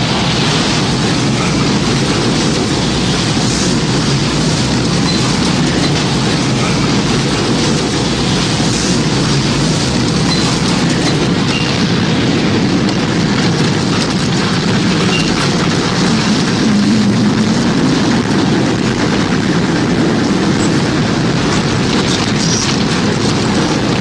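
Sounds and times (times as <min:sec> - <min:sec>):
roaring wind: 0:00.0 - 0:24.0.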